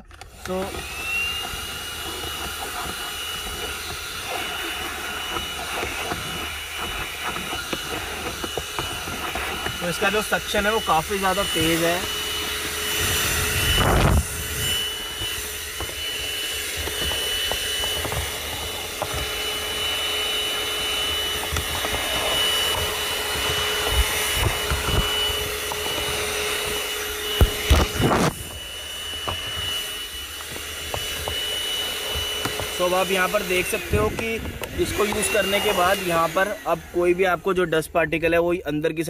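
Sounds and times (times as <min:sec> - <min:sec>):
handheld vacuum cleaner whining: 0:00.0 - 0:39.0.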